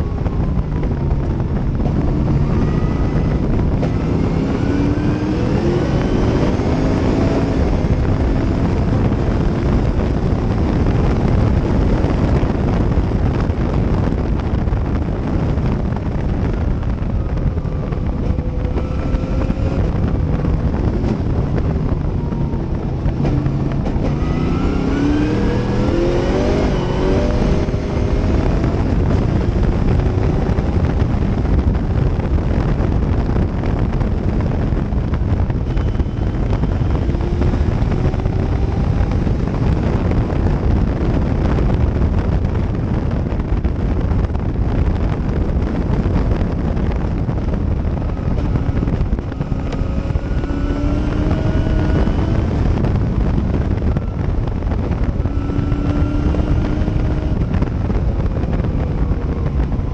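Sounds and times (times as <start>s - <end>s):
race car engine at speed: 0.0s - 59.9s
wind noise on microphone: 0.0s - 59.9s.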